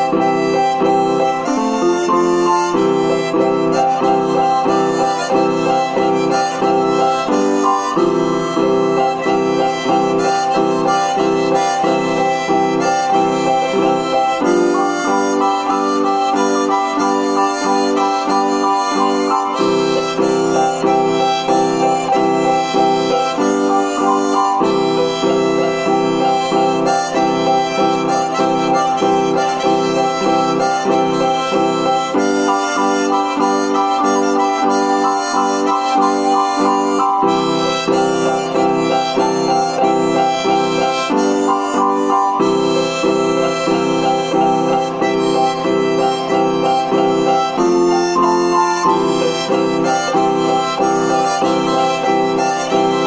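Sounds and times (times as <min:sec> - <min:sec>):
electronic keyboard chords: 0:00.0 - 0:53.0
harmonica melody: 0:00.0 - 0:53.0.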